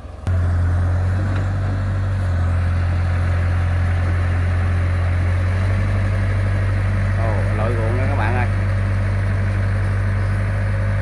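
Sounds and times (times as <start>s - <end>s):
excavator diesel engine humming: 0.0s - 11.0s.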